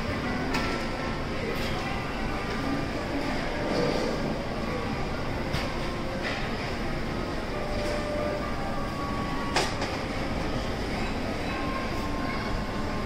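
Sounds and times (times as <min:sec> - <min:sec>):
busy shopping mall din: 0:00.0 - 0:13.0.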